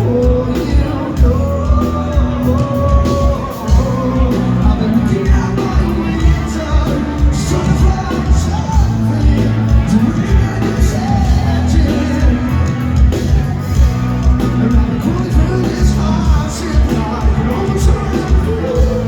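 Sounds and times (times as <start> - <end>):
live rock band playing: 0.0 - 19.0
person singing: 0.0 - 19.0
steady drum beat: 0.0 - 19.0.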